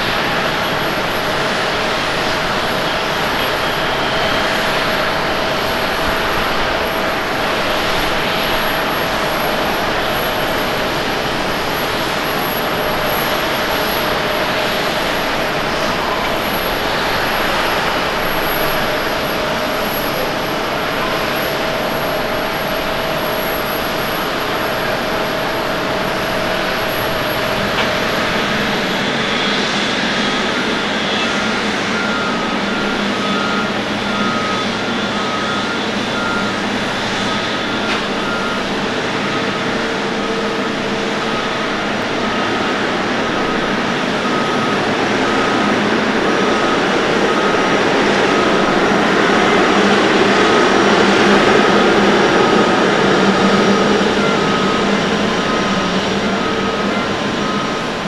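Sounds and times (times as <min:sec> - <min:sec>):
jet aircraft taxiing: 0:00.0 - 0:58.0
jet engines idling with whine: 0:00.0 - 0:58.0
vehicle reversing beeper: 0:00.0 - 0:58.0.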